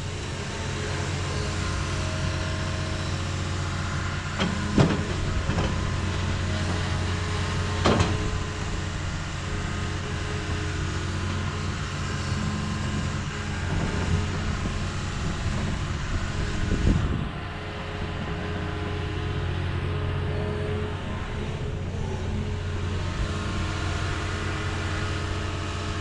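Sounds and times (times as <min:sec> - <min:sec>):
heavy machinery engine running: 0:00.0 - 0:26.0.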